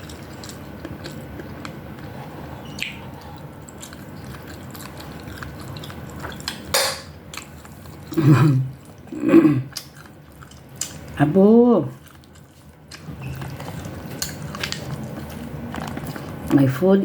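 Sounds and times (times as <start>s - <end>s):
chewing food: 0.0s - 16.7s.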